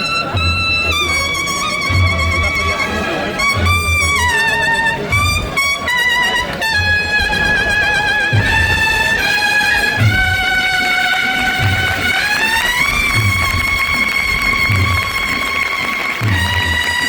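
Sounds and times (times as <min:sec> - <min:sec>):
brass band playing a march: 0:00.0 - 0:17.0
low drum beats: 0:00.0 - 0:17.0.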